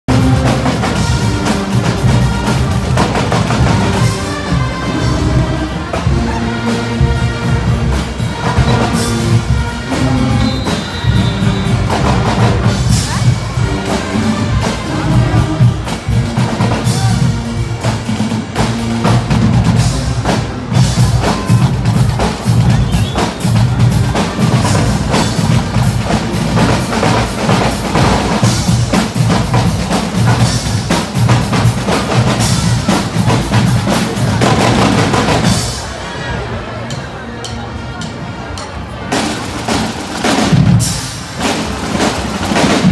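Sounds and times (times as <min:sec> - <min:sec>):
marching drums pounding: 0:00.1 - 0:36.0, 0:39.1 - 0:42.9
brass chords: 0:00.1 - 0:37.0.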